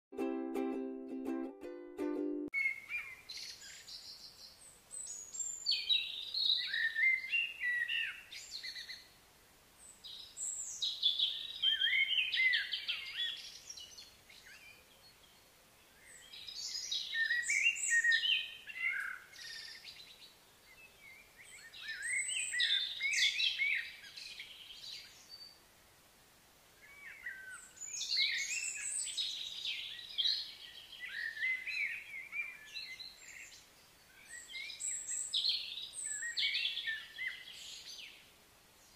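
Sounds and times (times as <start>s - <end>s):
songbird singing: 0.4s - 25.7s, 26.7s - 38.9s.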